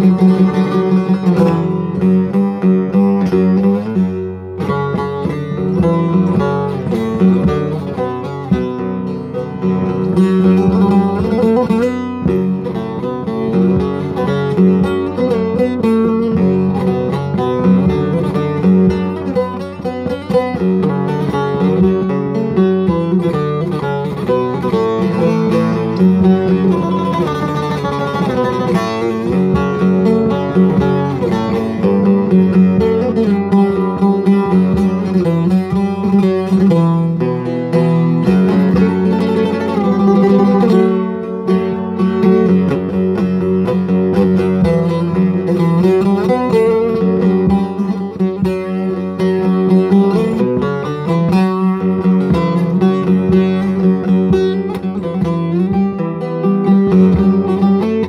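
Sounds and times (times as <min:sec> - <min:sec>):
long-necked lute plucked melody: 0:00.0 - 0:58.0.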